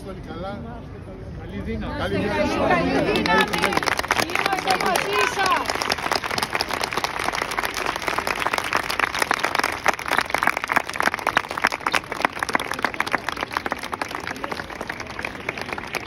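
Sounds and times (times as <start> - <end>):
crowd applauding: 2.7 - 16.0.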